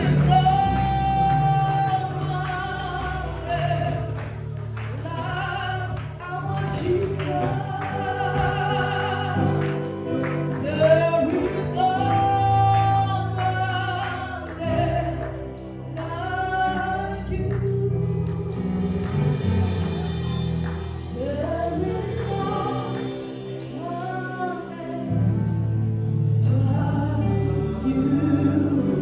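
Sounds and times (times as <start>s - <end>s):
held instrumental backing: 0.0s - 29.0s
voices singing worship song: 0.0s - 29.0s.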